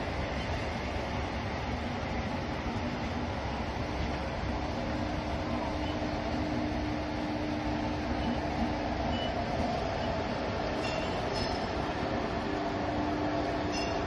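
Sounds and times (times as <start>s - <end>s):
locomotive hum: 0.0s - 14.0s.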